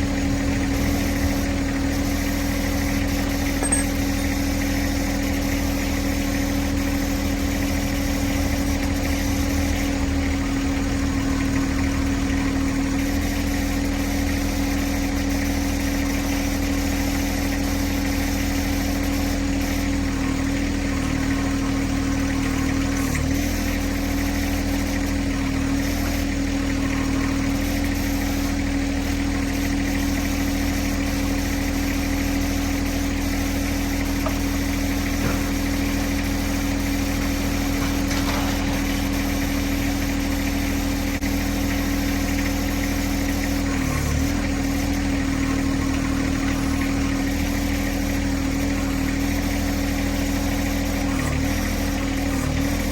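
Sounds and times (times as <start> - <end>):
tractor diesel engine idling: 0.0 - 52.9.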